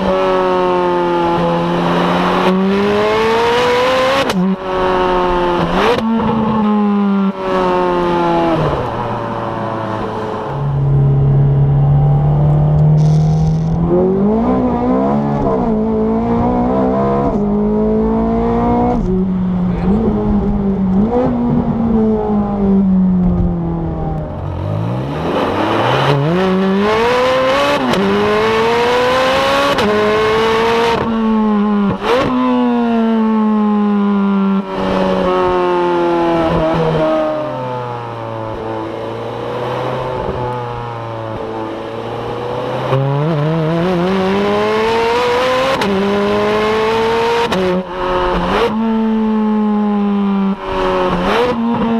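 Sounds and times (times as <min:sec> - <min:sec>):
sports car engine accelerating: 0:00.0 - 0:51.9.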